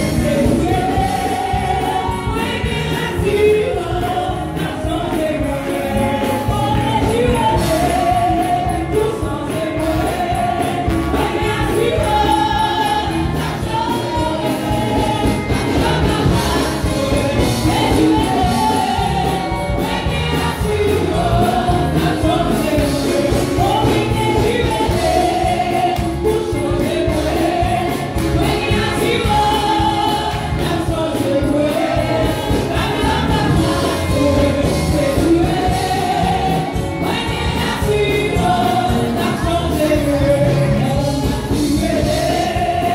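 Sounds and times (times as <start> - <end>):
choir and congregation singing: 0.0 - 42.9
instrumental accompaniment with beat: 0.0 - 42.9.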